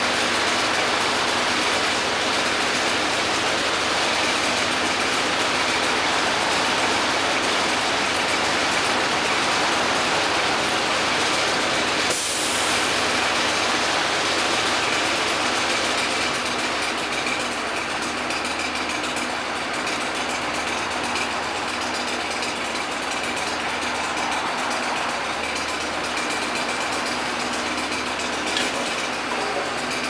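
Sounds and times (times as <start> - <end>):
large engine idling: 0.0 - 30.0.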